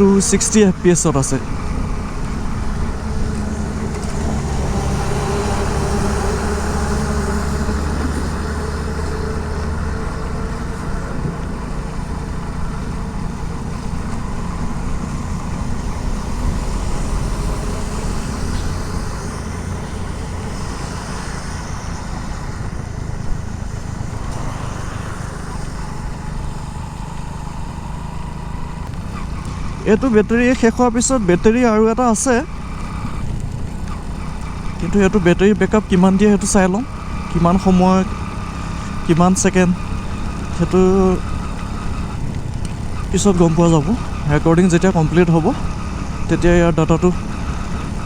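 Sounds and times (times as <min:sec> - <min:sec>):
motorcycle engine running: 0:00.0 - 0:48.0
wind and road noise: 0:00.0 - 0:48.0.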